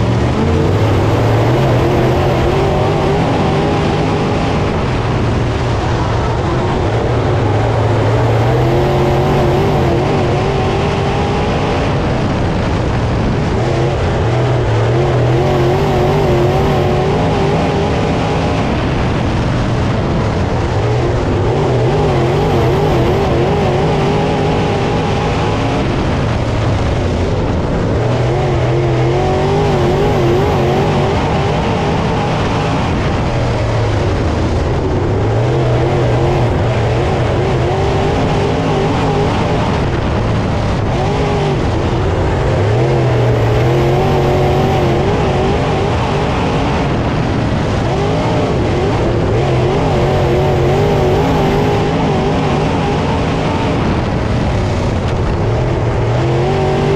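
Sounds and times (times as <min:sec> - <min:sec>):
race car engines at speed: 0:00.0 - 0:56.9.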